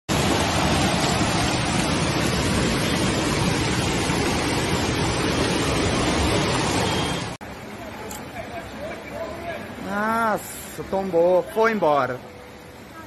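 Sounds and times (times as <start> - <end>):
floodwater rushing down a street: 0.1 - 13.0.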